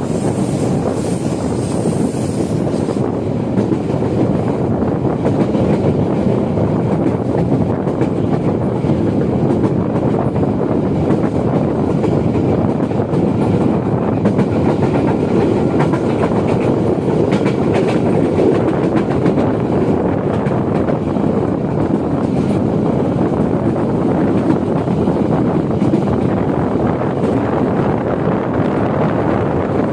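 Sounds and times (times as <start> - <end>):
rail joint clacks: 0.0 - 27.7
train wheels rumbling on rails: 0.0 - 29.9.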